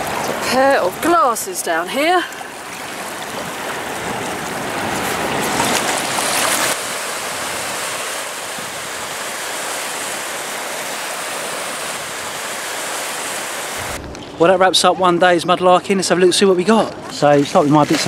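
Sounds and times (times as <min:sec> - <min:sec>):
water washing against shore: 0:00.0 - 0:18.0.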